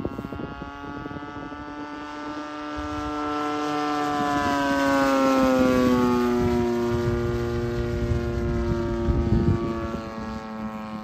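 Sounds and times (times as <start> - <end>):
model plane engine in flight: 0.0 - 11.0.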